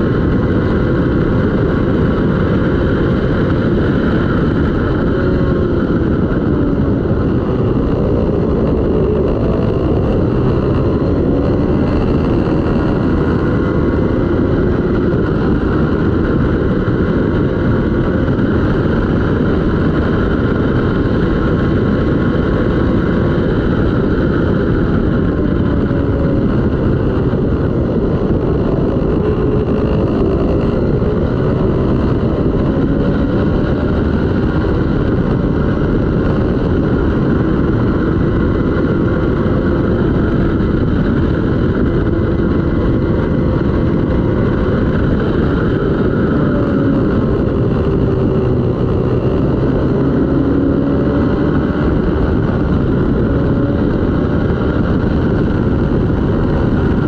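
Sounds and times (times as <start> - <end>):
heavy rushing noise: 0.0 - 57.0
racing motorcycle engine: 0.0 - 57.0.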